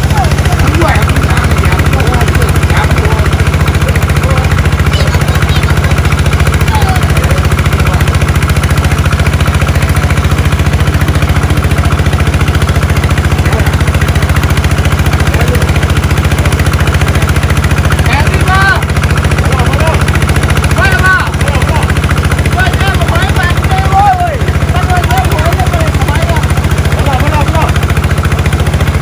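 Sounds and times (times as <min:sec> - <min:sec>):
small engine driving water pump: 0:00.0 - 0:29.0.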